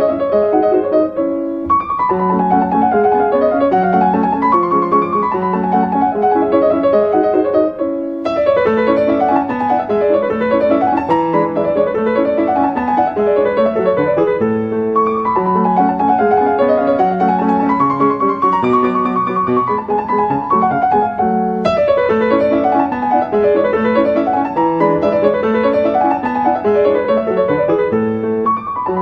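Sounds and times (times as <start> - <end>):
piano melody: 0.0 - 29.0.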